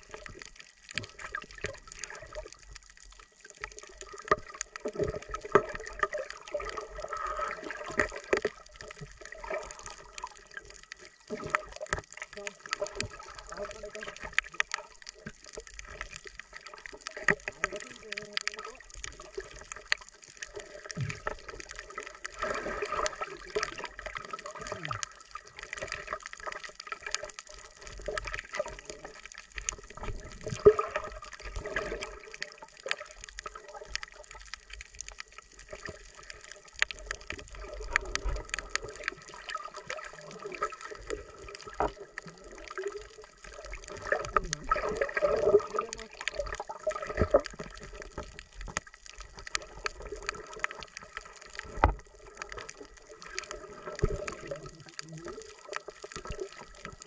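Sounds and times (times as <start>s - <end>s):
muffled underwater gurgling: 0.0s - 57.0s
sharp clicks and crackles: 0.0s - 57.0s.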